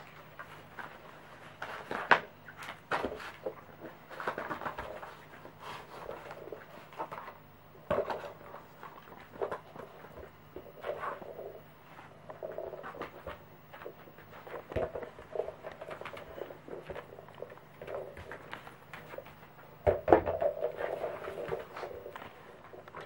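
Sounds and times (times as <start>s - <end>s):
paws tapping on floor: 0.0s - 23.0s.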